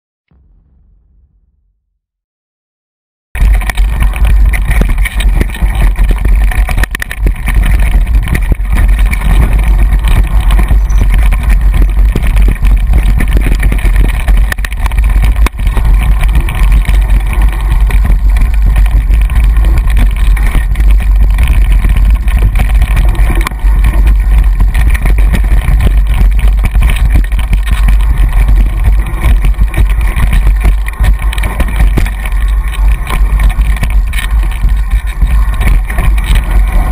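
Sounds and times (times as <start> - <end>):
camera ride rattle: 3.4 - 36.9
heavy wind buffeting: 3.4 - 36.9.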